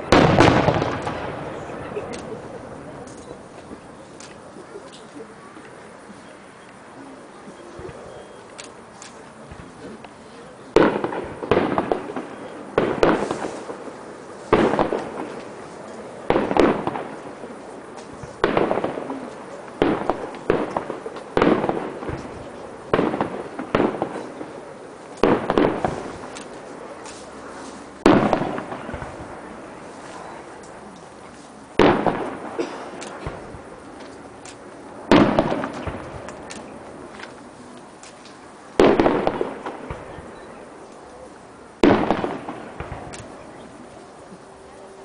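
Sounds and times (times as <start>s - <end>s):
fireworks bangs with echo: 0.0s - 4.4s, 9.5s - 44.1s.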